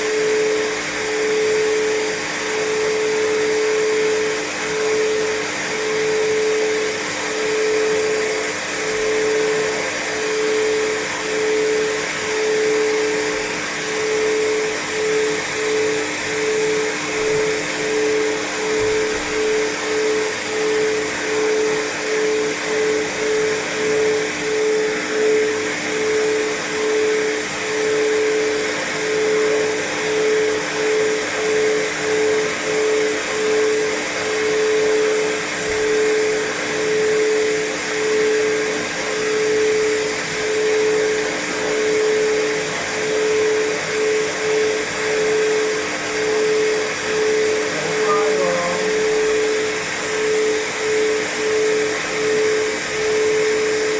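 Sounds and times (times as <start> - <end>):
blow dryer whining: 0.0 - 53.9.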